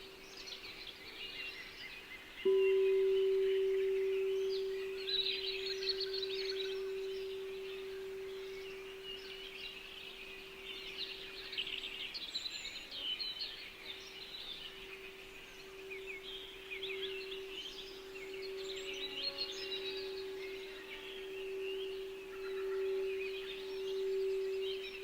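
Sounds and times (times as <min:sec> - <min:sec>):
small birds chirping: 0:00.0 - 0:25.0
steady held tone: 0:02.4 - 0:12.2, 0:14.6 - 0:25.0.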